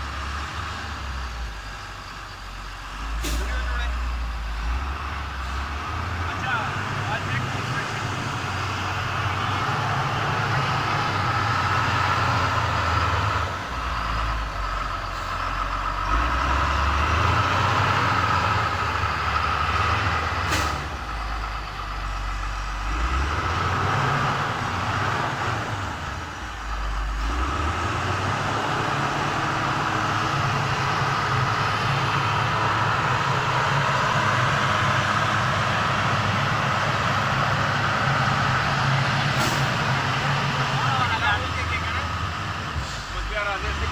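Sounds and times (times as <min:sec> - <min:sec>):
large engine humming: 0:00.0 - 0:43.9.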